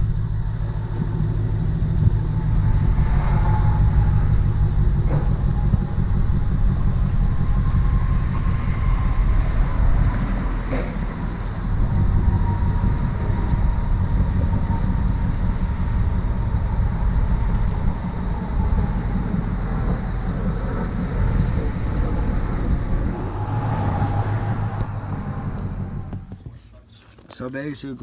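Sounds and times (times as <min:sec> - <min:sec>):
thin steady whine: 0:00.0 - 0:26.4
vehicle engine running: 0:00.0 - 0:27.6.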